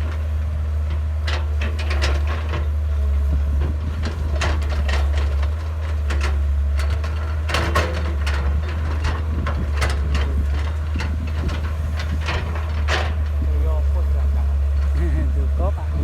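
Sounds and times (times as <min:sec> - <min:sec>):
excavator diesel engine droning: 0:00.0 - 0:16.0
bucket clanking and scraping: 0:01.4 - 0:16.0.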